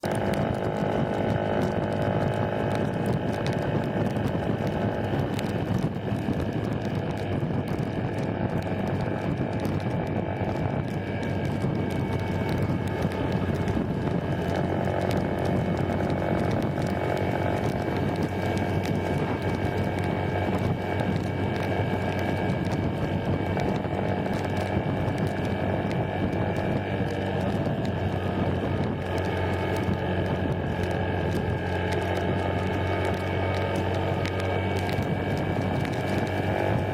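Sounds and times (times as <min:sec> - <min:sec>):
motorcycle engine running: 0:00.0 - 0:36.9
road noise: 0:00.0 - 0:36.9
rushing wind: 0:00.0 - 0:36.9.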